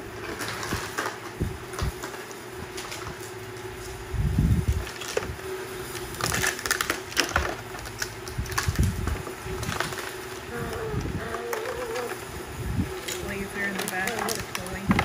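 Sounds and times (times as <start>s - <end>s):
faint steady hum: 0.0s - 15.0s
toys rustling: 0.0s - 15.0s.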